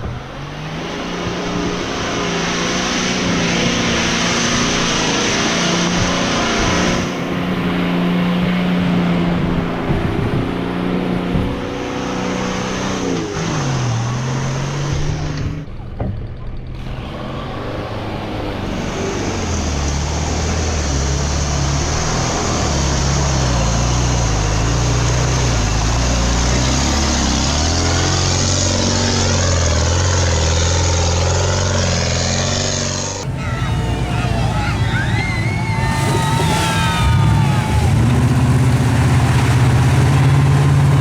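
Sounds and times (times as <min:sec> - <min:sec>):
truck engine revving: 0:00.0 - 0:15.8, 0:16.6 - 0:41.0.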